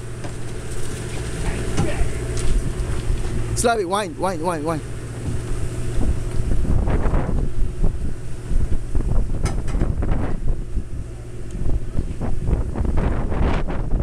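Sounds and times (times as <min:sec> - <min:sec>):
low boat rumble: 0:00.0 - 0:14.0
wind buffeting microphone: 0:01.2 - 0:14.0.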